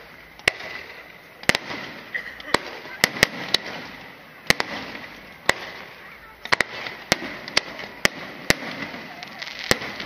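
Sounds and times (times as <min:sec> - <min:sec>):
fireworks bursting with bangs: 0:00.0 - 0:10.0.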